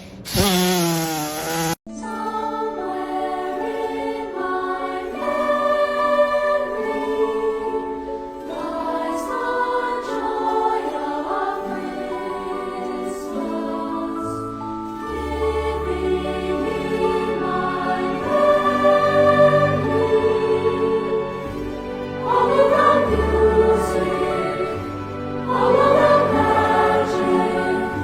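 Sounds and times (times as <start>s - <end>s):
choir singing in harmony: 1.9s - 28.0s.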